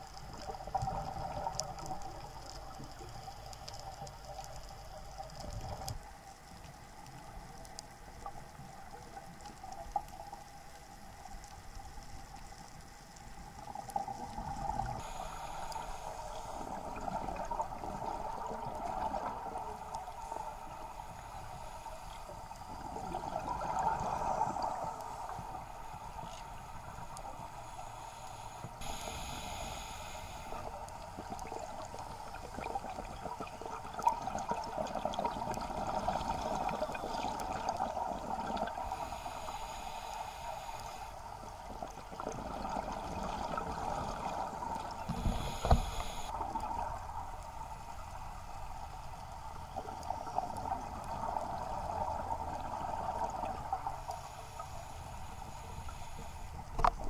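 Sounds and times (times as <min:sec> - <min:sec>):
underwater water and bubbles hiss: 0:00.0 - 0:57.0.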